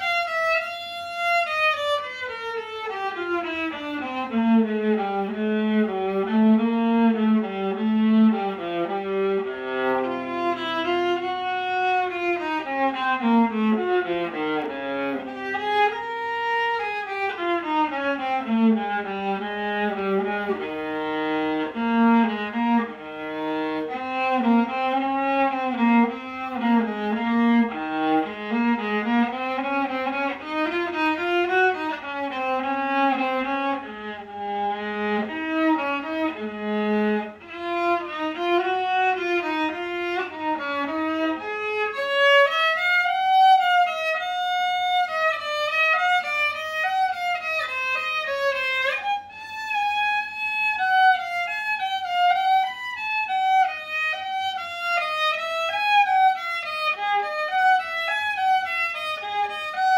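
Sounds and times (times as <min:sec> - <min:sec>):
solo bowed violin: 0:00.0 - 0:59.9.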